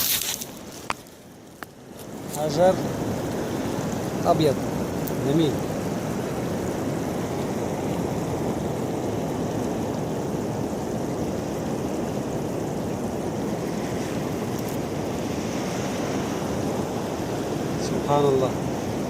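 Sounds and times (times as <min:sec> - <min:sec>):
sea surf washing on shore: 0:00.0 - 0:19.0.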